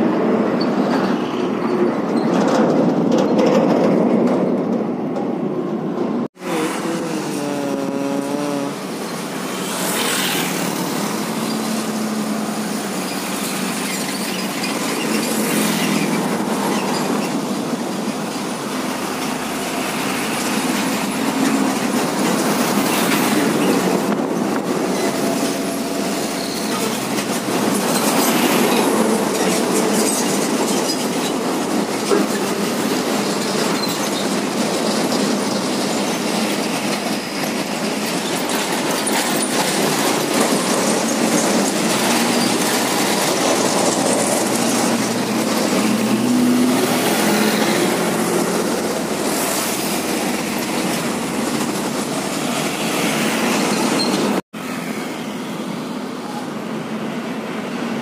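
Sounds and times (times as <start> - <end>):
diesel trucks passing: 0.0 - 58.0.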